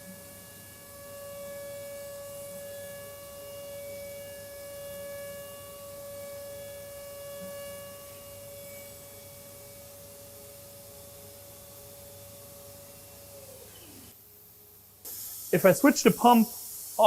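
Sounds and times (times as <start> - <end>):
high-pitched machine whine: 0.0 - 14.2.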